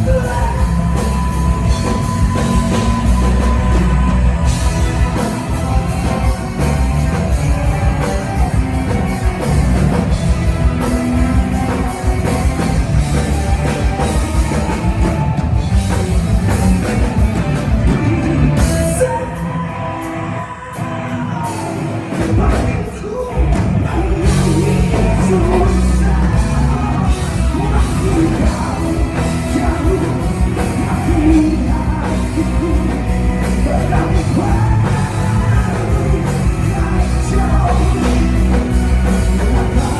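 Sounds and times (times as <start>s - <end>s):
live rock band: 0.0s - 39.9s
person singing: 0.0s - 39.9s.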